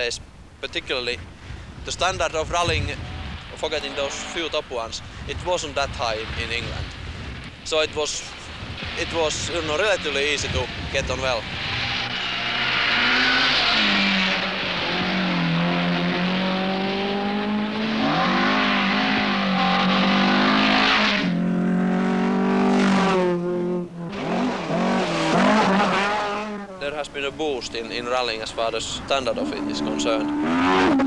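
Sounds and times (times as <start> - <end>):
rally car engines revving: 1.9 - 31.0.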